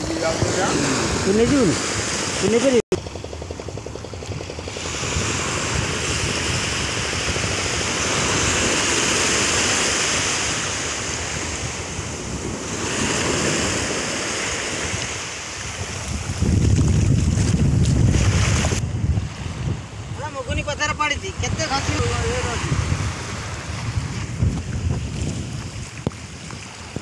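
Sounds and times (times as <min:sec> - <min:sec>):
small waves washing on beach: 0:00.0 - 0:02.8, 0:04.2 - 0:27.0
wind rumble on microphone: 0:03.4 - 0:27.0.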